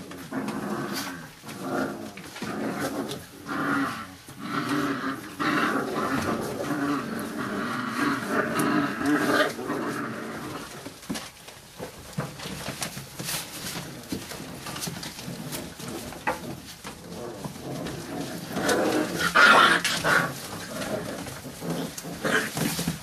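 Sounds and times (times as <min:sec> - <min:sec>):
puppies scuffling: 0:00.0 - 0:23.0.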